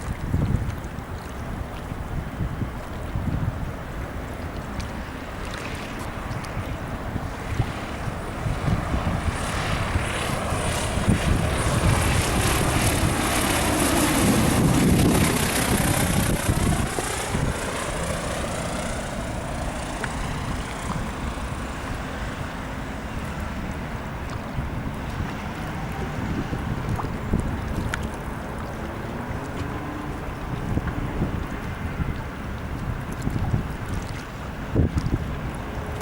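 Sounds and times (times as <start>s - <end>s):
propeller plane passing by: 0.0s - 36.0s.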